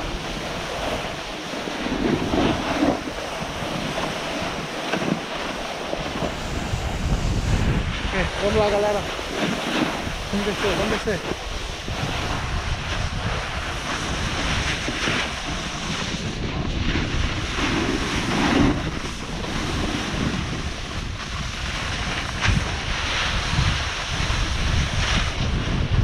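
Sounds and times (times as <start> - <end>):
snowboard scraping on snow: 0.0 - 26.0
wind on camera microphone: 0.0 - 26.0.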